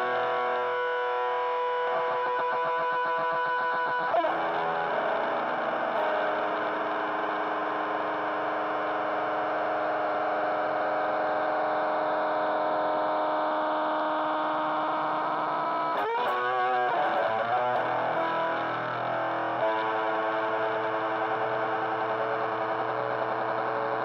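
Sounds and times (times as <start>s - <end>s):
fuzz electric guitar note: 0.0s - 24.0s.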